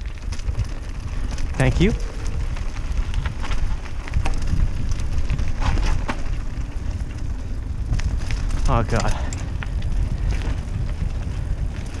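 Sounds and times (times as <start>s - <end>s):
bike clicks and rattles: 0.0s - 12.0s
bike tyres rolling over dirt: 0.0s - 12.0s
wind rumble: 0.0s - 12.0s.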